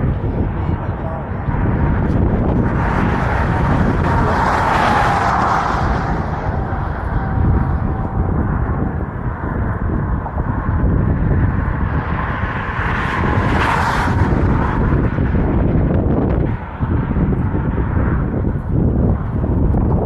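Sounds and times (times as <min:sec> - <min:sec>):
vehicle passing: 0:00.0 - 0:20.0
wind rumbling on microphone: 0:00.0 - 0:20.0.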